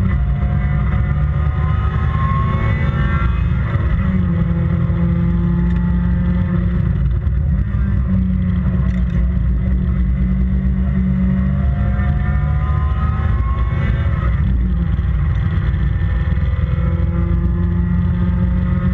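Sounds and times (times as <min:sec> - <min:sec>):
racing car engine revving: 0:00.0 - 0:18.9.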